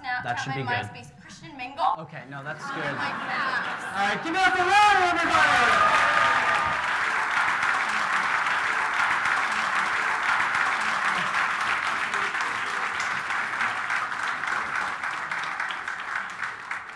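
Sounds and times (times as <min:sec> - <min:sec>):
audience applauding: 0:02.7 - 0:16.9.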